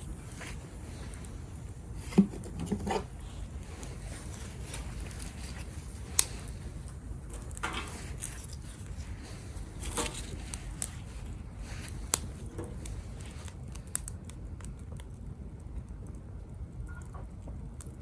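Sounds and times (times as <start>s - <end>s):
low steady rumble: 0.0s - 18.0s
wood fire pops and crackles: 0.0s - 18.0s.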